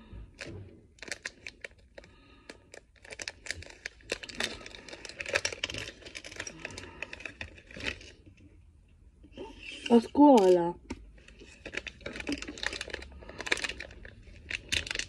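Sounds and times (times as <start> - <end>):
plastic wrapper crinkling and tearing: 0.4 - 8.4, 9.3 - 15.0.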